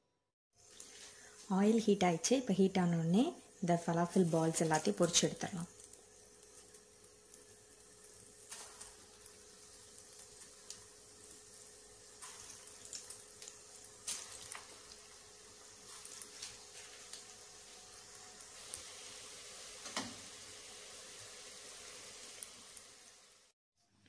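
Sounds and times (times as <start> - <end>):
food frying in hot oil: 0.6 - 23.6.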